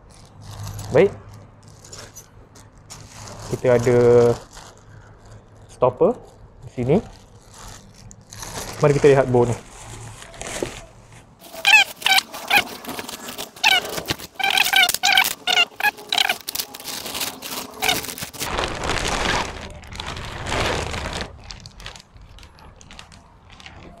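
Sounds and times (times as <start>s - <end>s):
plastic wrap rustling: 0.0s - 24.0s
plastic squeaks: 0.1s - 24.0s.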